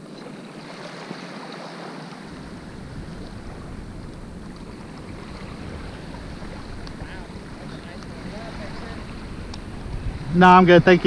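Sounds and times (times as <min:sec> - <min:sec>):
surf washing: 0:00.0 - 0:11.0
wind blowing across microphone: 0:02.1 - 0:11.0.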